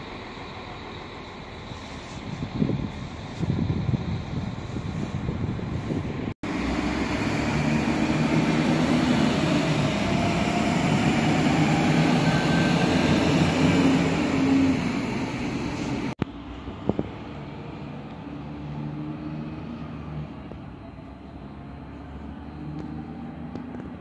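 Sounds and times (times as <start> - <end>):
diesel railcar engine drone: 0.0 - 24.0
train wheel rumble: 0.0 - 24.0.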